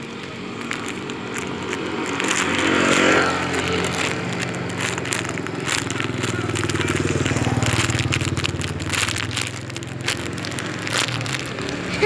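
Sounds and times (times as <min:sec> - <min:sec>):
steady engine hum: 0:00.0 - 0:12.0
vehicle passing: 0:00.0 - 0:12.0.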